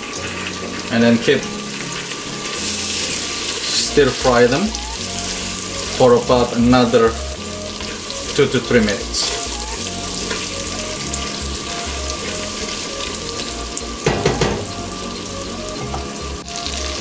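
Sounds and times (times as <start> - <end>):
paste sizzling in hot oil: 0.0 - 17.0.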